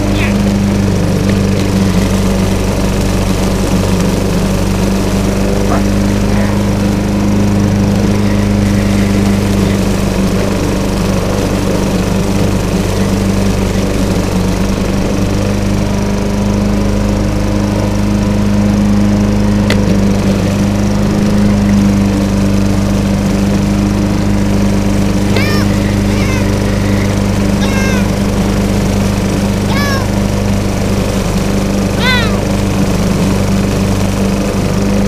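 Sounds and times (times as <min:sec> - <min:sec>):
lawn mower running: 0:00.0 - 0:35.0.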